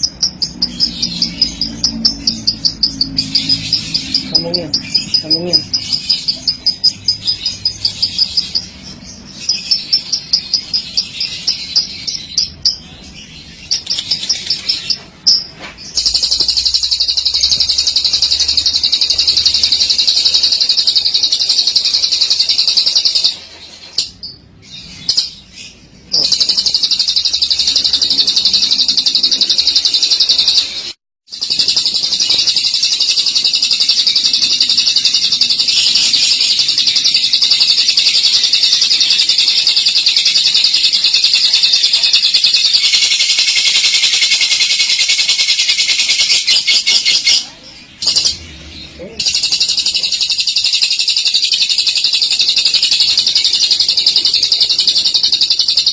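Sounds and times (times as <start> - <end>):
bird chattering trills: 0.0 - 55.9
bird rapid high chirps: 0.0 - 55.9.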